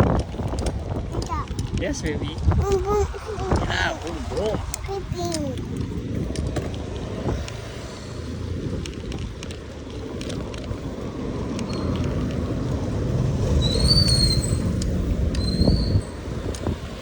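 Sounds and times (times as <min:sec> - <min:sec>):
bicycle road noise: 0:00.0 - 0:17.0
wind rumble on microphone: 0:00.0 - 0:17.0.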